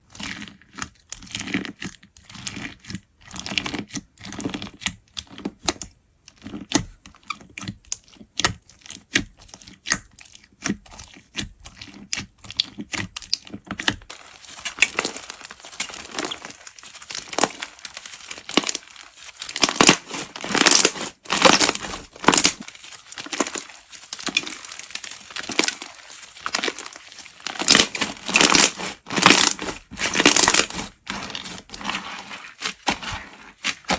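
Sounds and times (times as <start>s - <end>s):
slime crackling and squishing: 0.0s - 33.9s.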